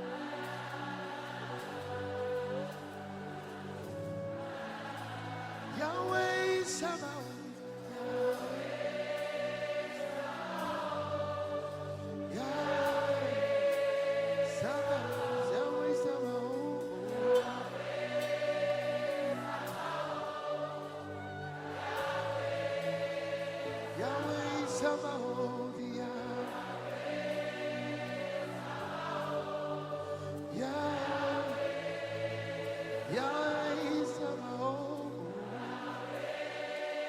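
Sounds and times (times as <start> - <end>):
choir singing long notes: 0.0 - 37.0.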